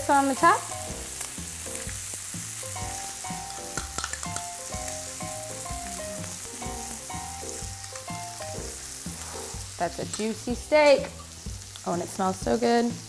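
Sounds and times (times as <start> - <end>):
background music: 0.0 - 13.0
steak sizzling on a griddle: 0.0 - 13.0.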